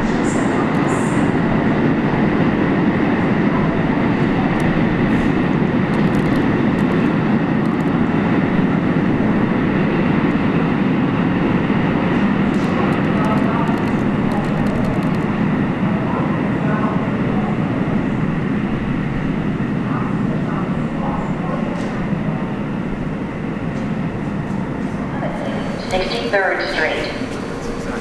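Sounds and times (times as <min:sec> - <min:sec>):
subway train rumbling: 0:00.0 - 0:28.0.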